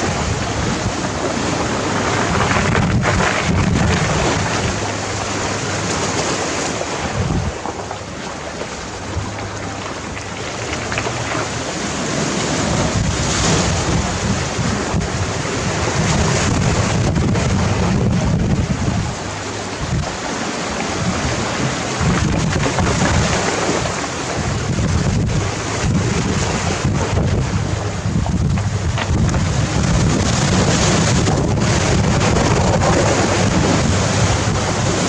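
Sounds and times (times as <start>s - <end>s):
waves washing over gravel beach: 0.0s - 35.0s
wind buffeting microphone: 0.0s - 35.0s.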